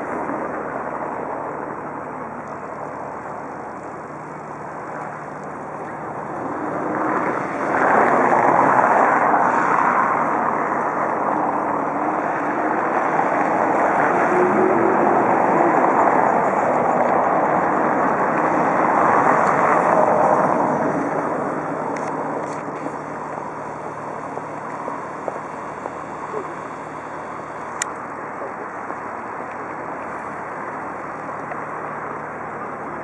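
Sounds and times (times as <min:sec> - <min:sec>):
traffic rush: 0:00.0 - 0:33.0.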